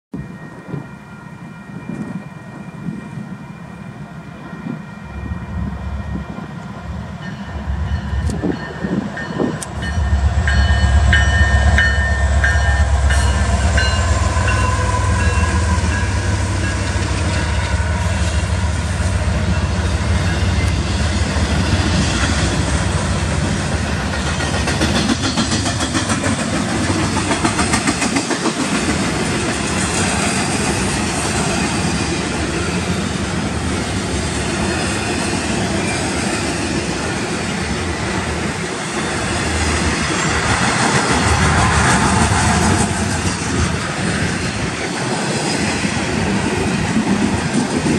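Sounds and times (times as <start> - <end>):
deep locomotive engine drone: 0.1 - 47.9
train wheels on rail: 0.1 - 47.9.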